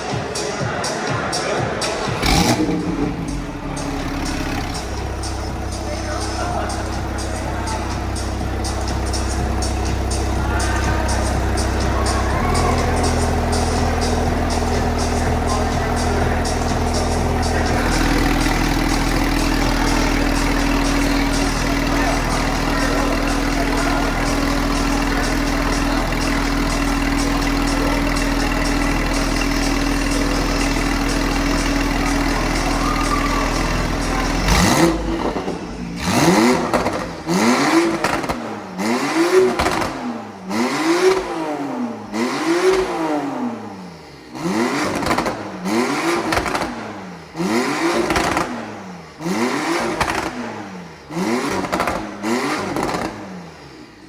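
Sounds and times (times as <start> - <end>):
car engine idling: 1.8 - 54.0
engine revving in blips: 1.9 - 54.0.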